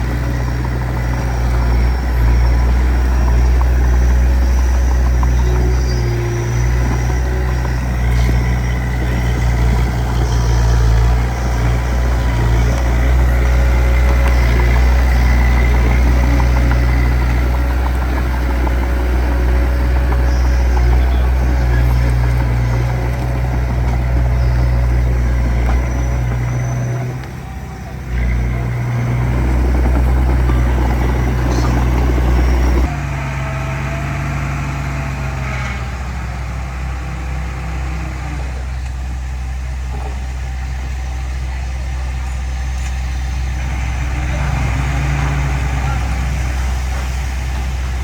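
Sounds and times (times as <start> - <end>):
diesel machinery engine running: 0.0 - 48.0.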